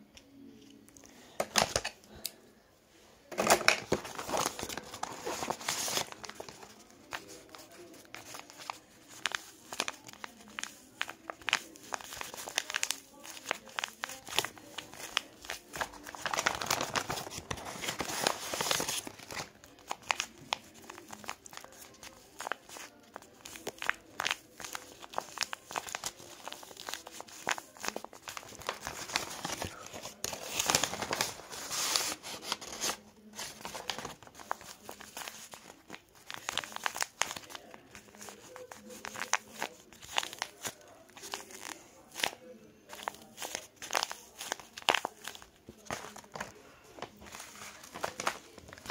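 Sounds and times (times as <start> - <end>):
paper squishy crinkling: 3.3 - 48.9.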